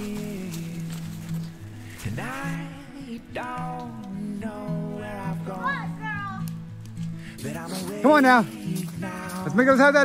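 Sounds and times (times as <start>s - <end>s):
background music with gliding phrase: 0.0s - 10.0s.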